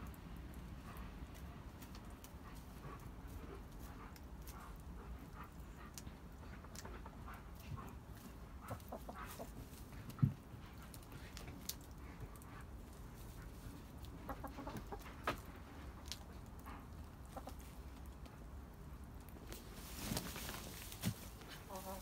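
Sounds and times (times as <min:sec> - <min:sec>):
hens clucking quietly: 0:01.8 - 0:18.8, 0:19.4 - 0:22.0.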